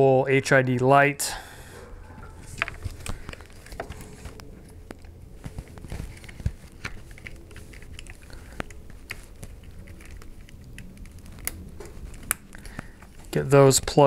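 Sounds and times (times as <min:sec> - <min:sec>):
wiring rustling: 0:01.6 - 0:14.0.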